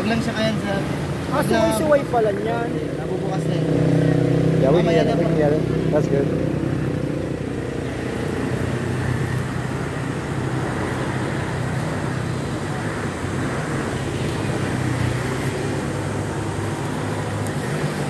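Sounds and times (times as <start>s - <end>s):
road traffic noise: 0.0s - 18.0s
vehicle engine humming: 0.0s - 18.0s.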